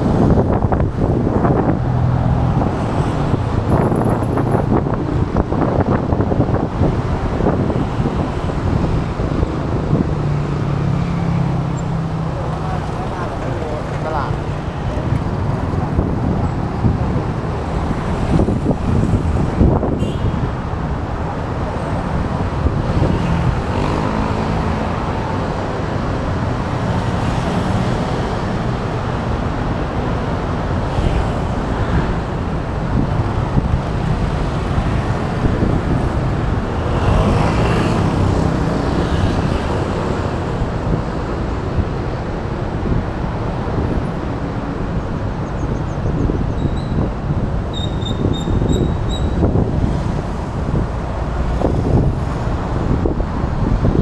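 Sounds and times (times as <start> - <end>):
cars and motorbikes passing: 0.0 - 54.0.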